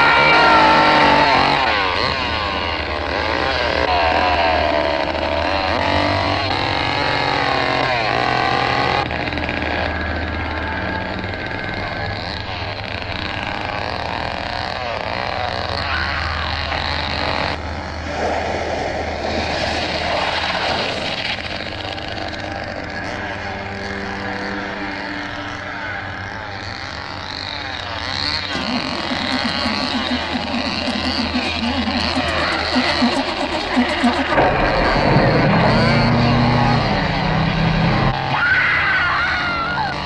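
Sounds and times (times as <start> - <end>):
chainsaw revving: 0.0 - 40.0
low hum of road vehicles: 0.0 - 40.0.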